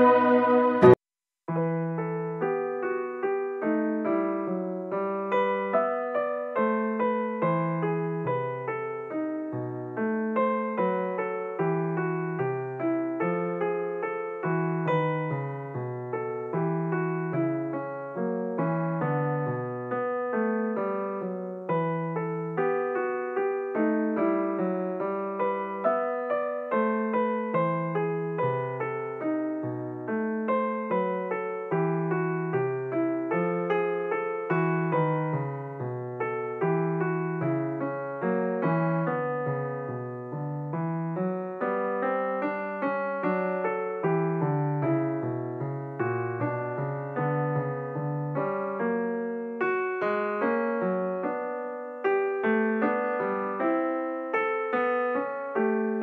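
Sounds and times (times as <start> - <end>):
background piano music: 0.0 - 56.0.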